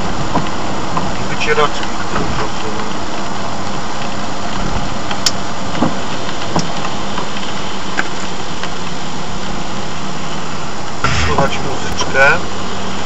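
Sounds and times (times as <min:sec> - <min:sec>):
road and engine hiss in car: 0:00.0 - 0:13.0.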